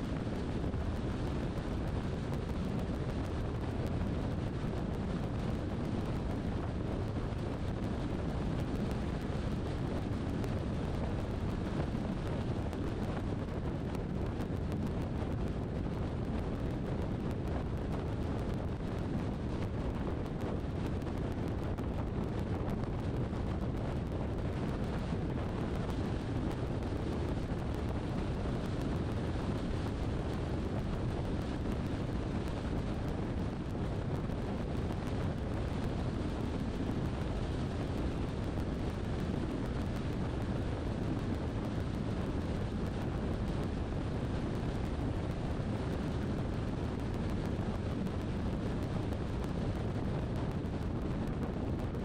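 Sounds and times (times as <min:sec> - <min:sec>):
car road and wind noise: 0:00.0 - 0:52.0.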